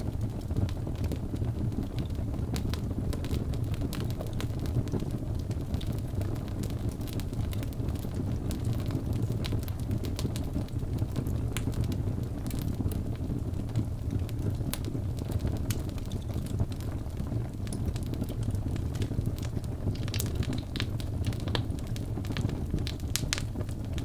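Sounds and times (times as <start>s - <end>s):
fireplace fire rumbling and crackling: 0.0s - 24.0s.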